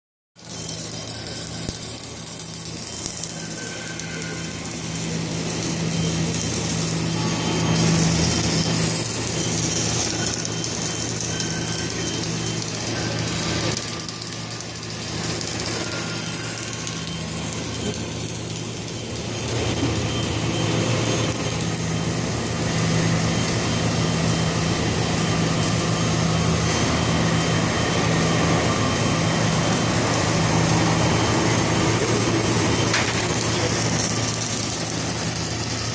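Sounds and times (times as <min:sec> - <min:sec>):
welding machine humming and hissing: 0:00.4 - 0:35.9.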